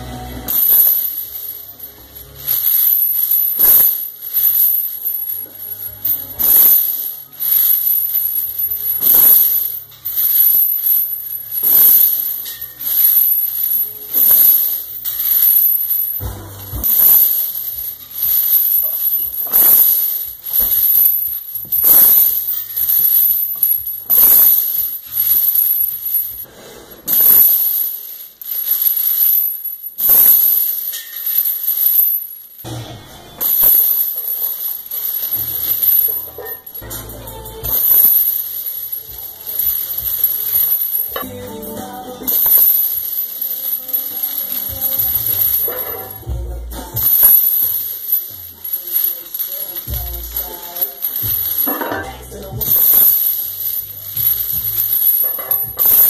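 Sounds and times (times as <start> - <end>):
heavy steel chains clanking: 0.4 - 56.0.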